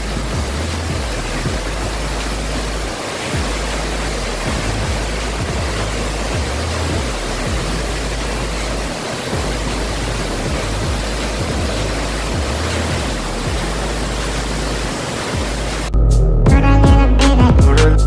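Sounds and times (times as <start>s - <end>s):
waterfall roaring: 0.0s - 16.0s
music with deep bass: 0.0s - 18.0s.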